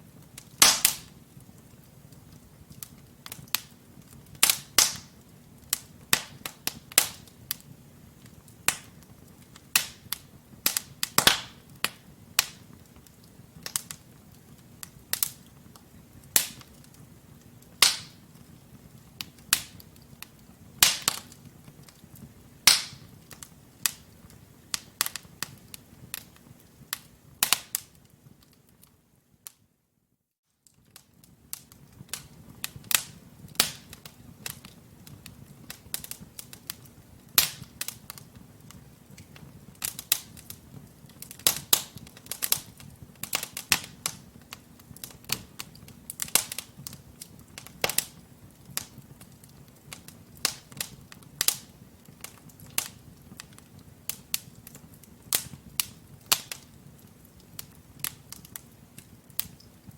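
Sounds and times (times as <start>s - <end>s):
logs crackling in fireplace: 0.0s - 29.7s, 30.5s - 59.9s.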